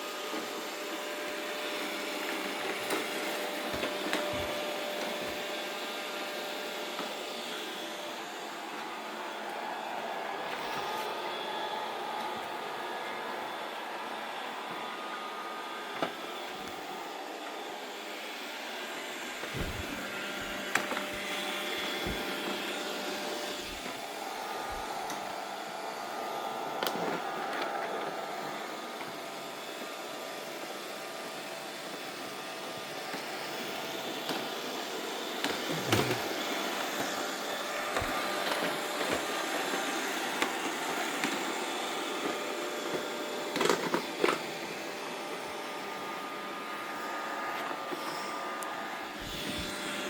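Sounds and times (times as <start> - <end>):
robot vacuum cleaner humming: 0.0 - 50.0.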